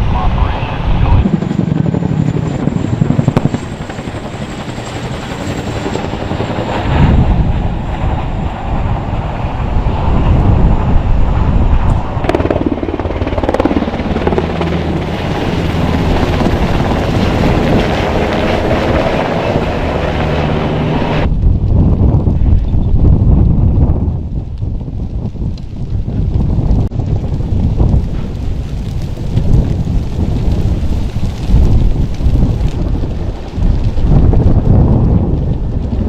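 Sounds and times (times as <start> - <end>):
helicopter flying: 0.0 - 36.0.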